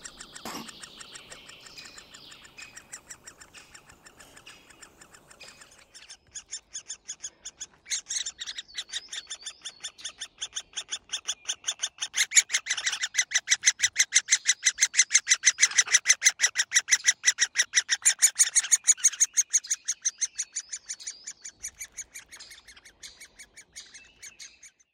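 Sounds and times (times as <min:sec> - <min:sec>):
woodpecker chicks begging calls: 0:00.0 - 0:24.9.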